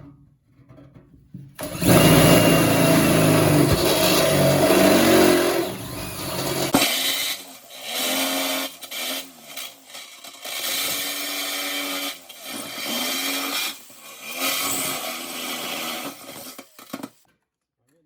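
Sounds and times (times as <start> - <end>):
power tool cutting metal: 1.6 - 17.2.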